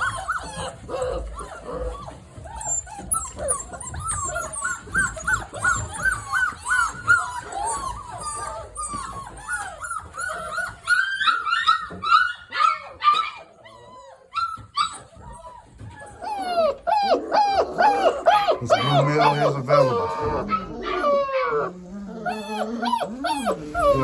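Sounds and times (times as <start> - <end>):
puppies whining and yipping: 0.0 - 24.0.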